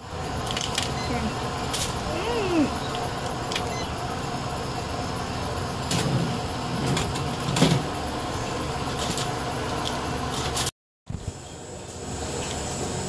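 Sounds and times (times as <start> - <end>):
ceiling fan whirring: 0.0 - 13.0.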